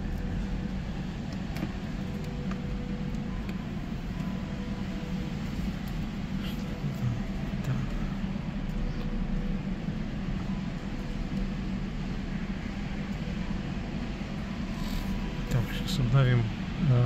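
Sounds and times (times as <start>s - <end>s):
car cabin hum and hiss: 0.0s - 17.0s.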